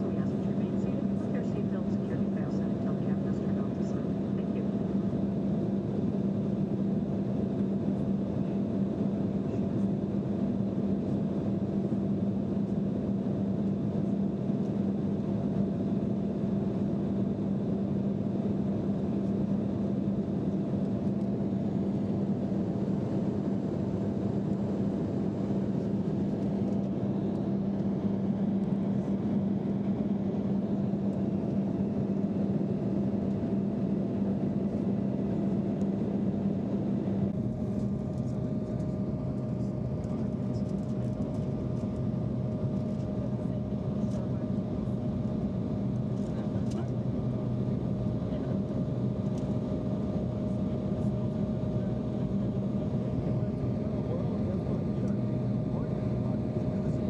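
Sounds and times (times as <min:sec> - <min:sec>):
jet engines droning: 0:00.0 - 0:57.0
steady low hum: 0:00.0 - 0:57.0.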